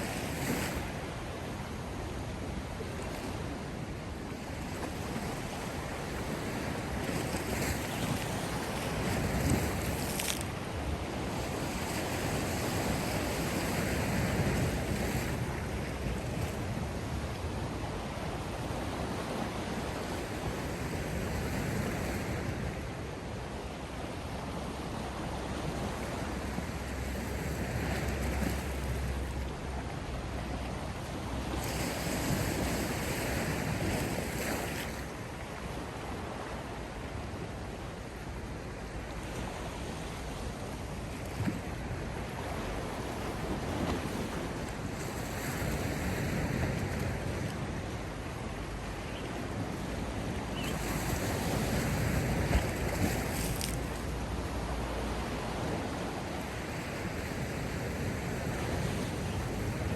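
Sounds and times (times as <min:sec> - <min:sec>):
sea waves washing ashore: 0:00.0 - 0:59.9.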